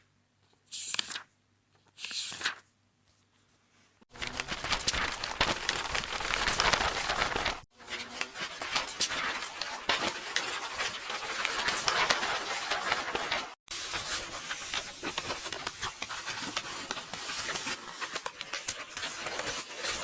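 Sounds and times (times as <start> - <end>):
paper rustling and tearing: 2.0 - 2.7, 4.1 - 20.0.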